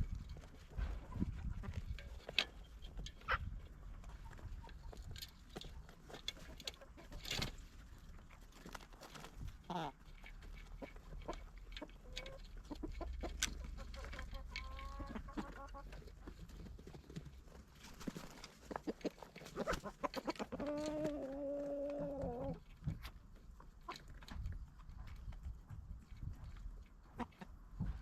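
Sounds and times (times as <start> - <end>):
chickens clucking and calling: 0.0 - 8.2, 9.4 - 28.0.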